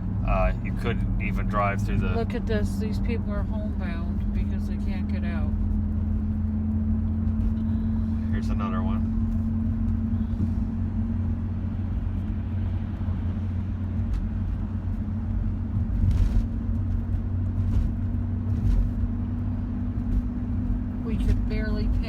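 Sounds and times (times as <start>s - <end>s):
car road and engine hum: 0.0s - 22.0s.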